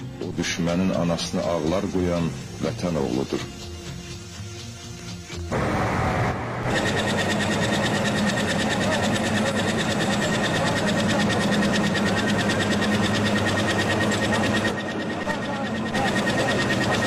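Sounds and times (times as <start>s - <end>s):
motor running with rattle: 0.0s - 5.6s, 6.6s - 17.0s.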